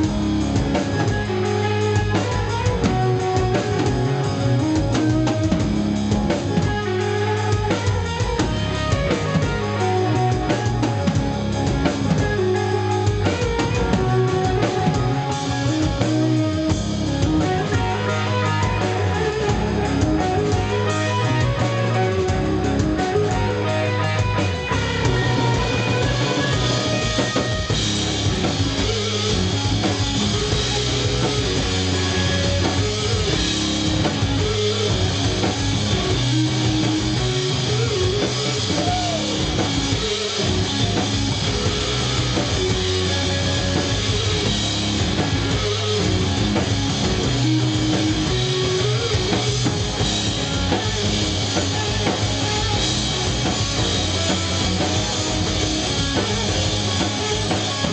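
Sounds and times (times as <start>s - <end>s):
bass guitar: 0.0s - 57.9s
drum kit: 0.0s - 57.9s
electric guitar: 0.0s - 57.9s.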